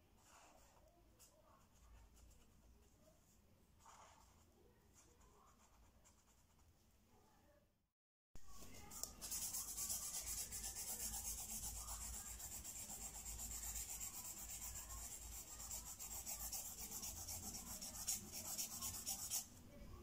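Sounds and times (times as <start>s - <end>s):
coloured pencil scratching on paper: 0.1s - 3.0s, 3.8s - 6.7s, 8.8s - 19.5s.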